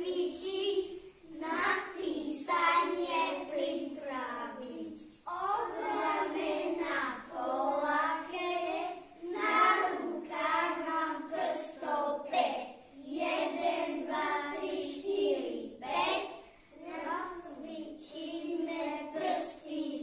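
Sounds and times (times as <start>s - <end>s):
children singing together: 0.0s - 20.0s.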